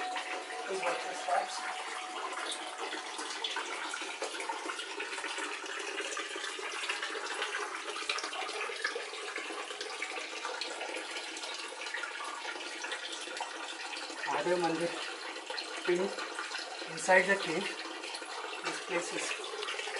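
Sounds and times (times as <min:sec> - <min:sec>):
water flowing over rock: 0:00.0 - 0:19.9.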